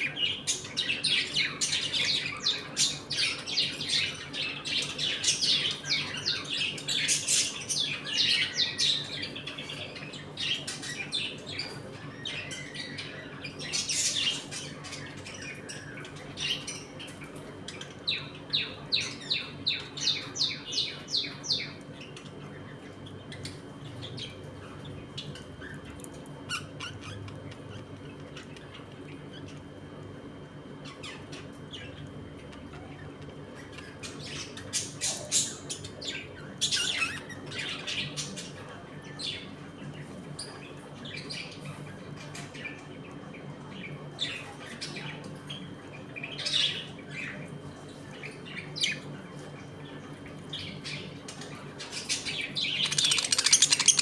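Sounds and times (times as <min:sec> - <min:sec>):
budgerigars chirping and chattering: 0:00.0 - 0:25.8, 0:30.8 - 0:42.9, 0:43.7 - 0:54.0.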